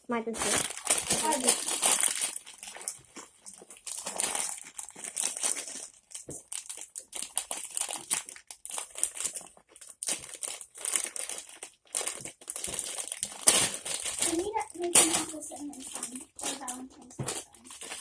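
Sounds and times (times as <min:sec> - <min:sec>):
packaging crinkling: 0:00.3 - 0:18.0.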